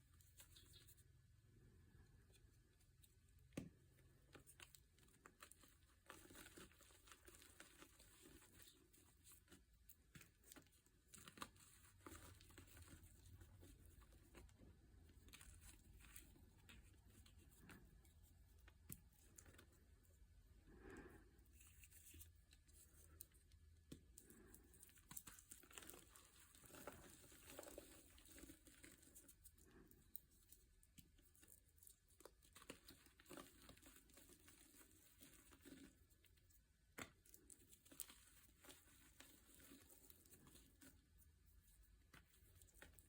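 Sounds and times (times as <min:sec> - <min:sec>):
faint crinkling and rustling: 0:00.0 - 0:43.0.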